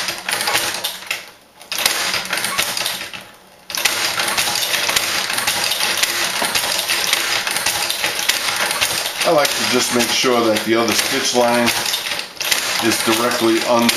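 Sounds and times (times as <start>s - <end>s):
leather stitcher clicking: 0.0s - 13.9s.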